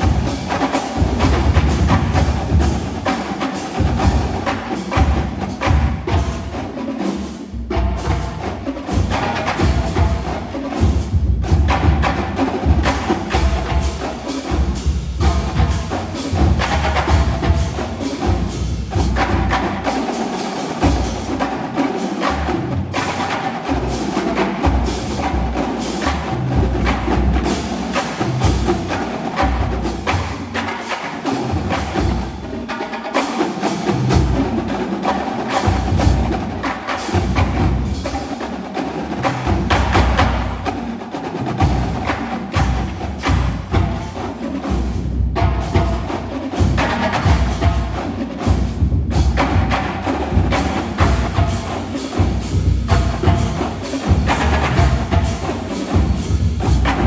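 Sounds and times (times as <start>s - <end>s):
marching drumline playing: 0.0s - 57.0s.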